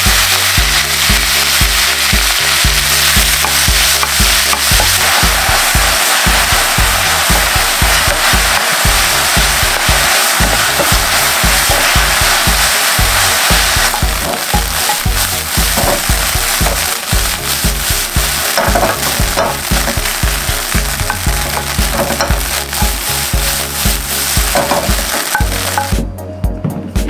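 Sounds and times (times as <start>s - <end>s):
ground beef sizzling in frying pan: 0.0s - 25.9s
wooden spatula stirring: 3.2s - 25.9s.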